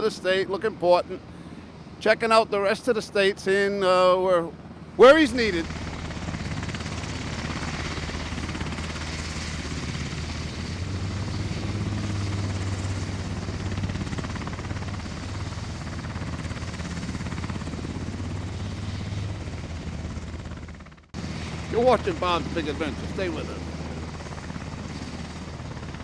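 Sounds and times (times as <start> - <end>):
helicopter running: 0.0 - 26.0.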